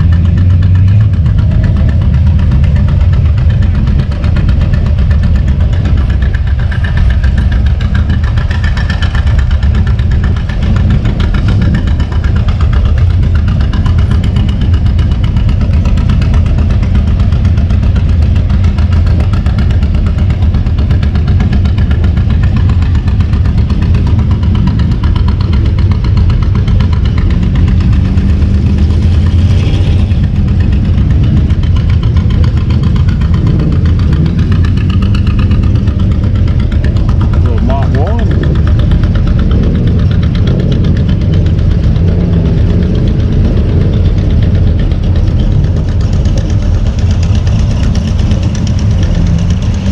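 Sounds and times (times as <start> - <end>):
car engine rumbling: 0.0 - 49.9.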